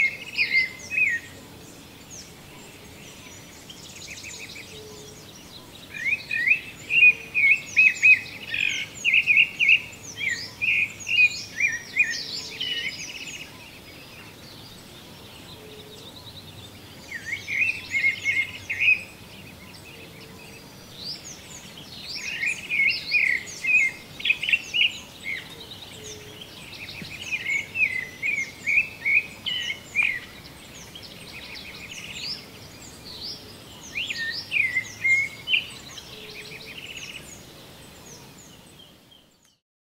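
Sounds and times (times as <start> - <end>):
birds chirping: 0.0 - 39.6
faint steady hiss: 0.0 - 39.6.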